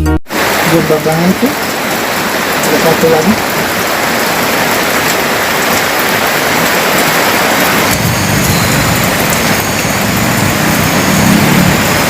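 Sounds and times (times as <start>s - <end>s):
rain hiss: 0.3s - 12.0s.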